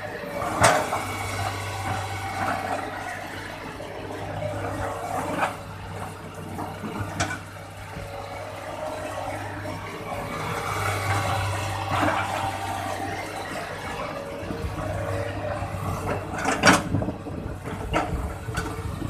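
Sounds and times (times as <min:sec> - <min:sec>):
excavator engine hum: 0:00.0 - 0:19.0.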